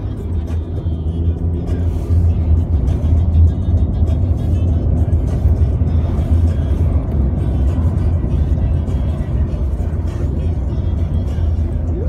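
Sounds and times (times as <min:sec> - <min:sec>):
bass-heavy music from car stereo: 0:00.0 - 0:12.0
low rumble of moving car: 0:00.0 - 0:12.0.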